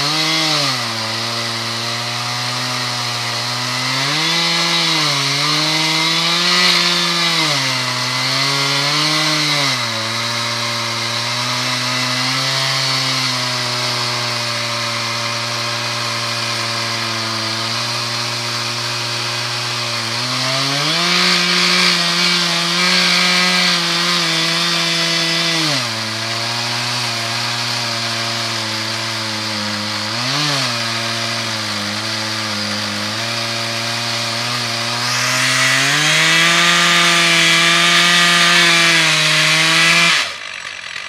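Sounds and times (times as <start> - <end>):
chainsaw cutting log: 0.0 - 41.0.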